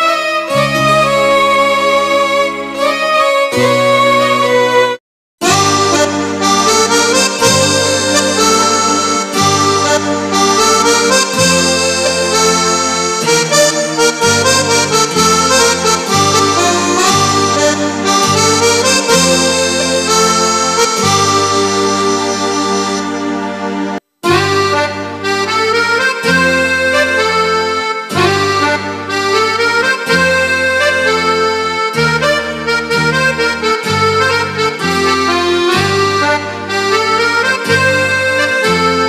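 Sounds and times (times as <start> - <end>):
accordion-like keyboard melody: 0.0 - 39.0
sustained bass chords: 5.4 - 39.0.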